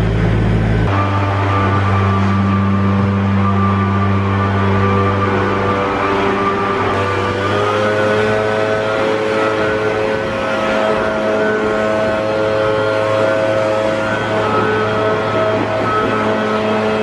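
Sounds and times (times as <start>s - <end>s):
leaf blower running: 0.0s - 17.0s.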